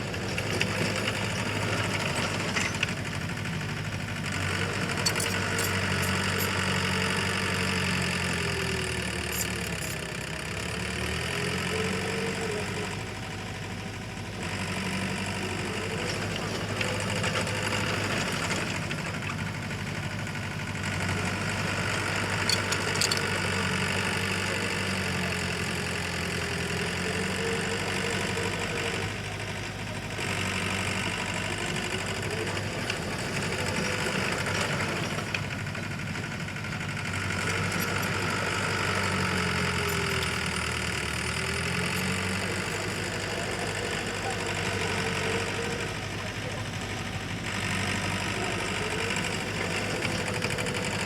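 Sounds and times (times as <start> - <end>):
heavy machinery diesel engine: 0.0 - 51.0.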